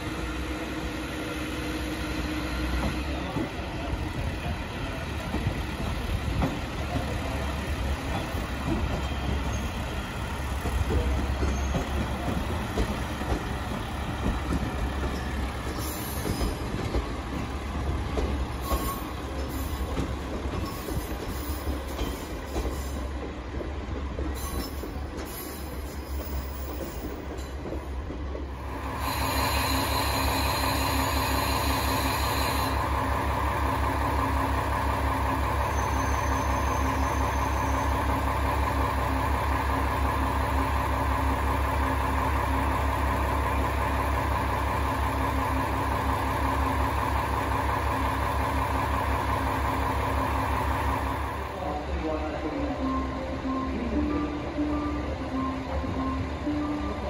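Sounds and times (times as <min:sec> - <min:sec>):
diesel railcar idling: 0:00.0 - 0:24.1, 0:26.2 - 0:57.0
railcar moving on rails: 0:00.0 - 0:57.0.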